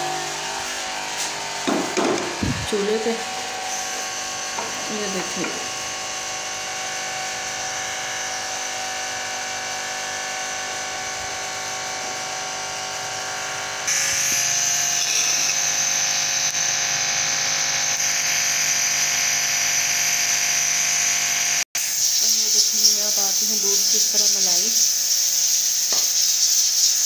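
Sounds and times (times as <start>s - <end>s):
small electric motor humming: 0.0s - 27.0s.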